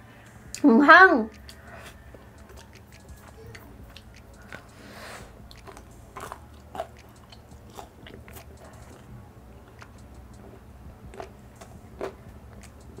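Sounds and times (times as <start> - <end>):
person chewing crunchy food: 1.3 - 13.0.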